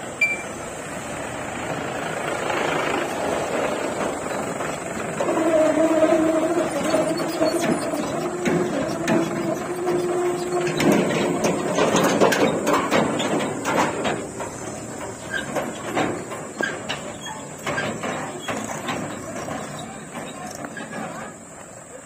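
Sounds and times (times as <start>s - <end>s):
tractor engine running: 0.0s - 22.0s
metal trolley rattling and clanking: 1.6s - 22.0s.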